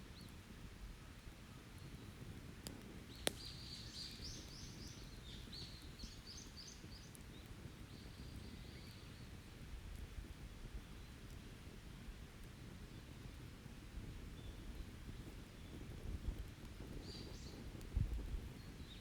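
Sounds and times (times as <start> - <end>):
campfire wood popping: 1.8 - 19.0.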